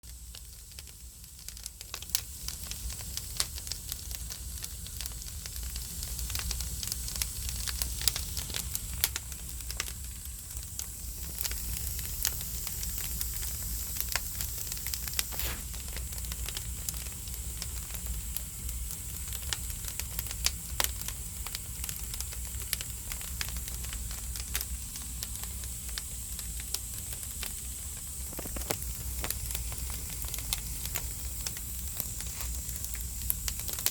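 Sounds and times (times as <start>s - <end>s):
firewood crackling and popping: 0.1s - 33.9s.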